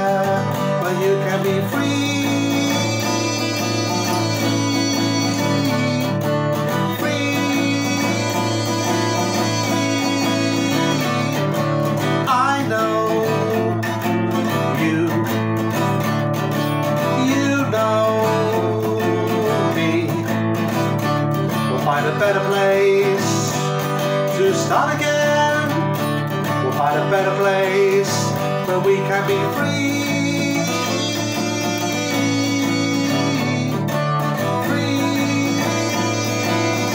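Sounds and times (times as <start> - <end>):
acoustic guitar strumming: 0.0 - 36.9
man singing: 0.0 - 36.9.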